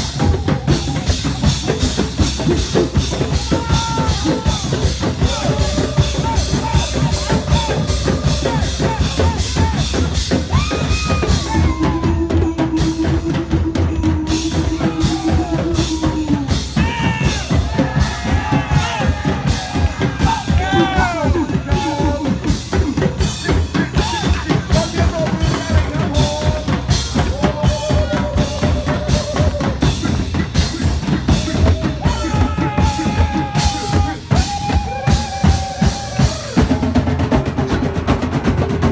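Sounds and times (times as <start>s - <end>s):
fast drum beat: 0.0s - 38.9s.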